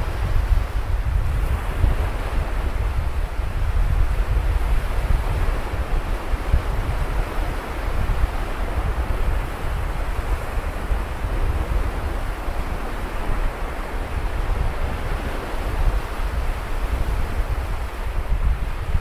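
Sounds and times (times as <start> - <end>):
sea waves washing on beach: 0.0 - 19.0
wind rumbling on microphone: 0.0 - 19.0.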